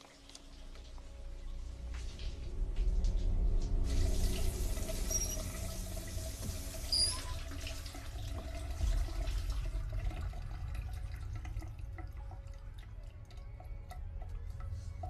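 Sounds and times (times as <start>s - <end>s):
shower water running: 0.0s - 13.0s
water dripping on tiles: 0.0s - 14.8s.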